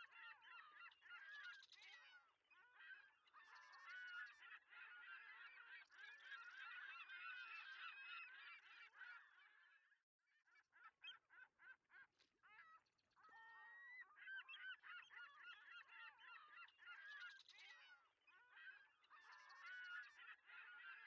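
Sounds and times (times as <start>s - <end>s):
flock of birds honking and calling: 0.0s - 9.9s, 12.5s - 21.0s.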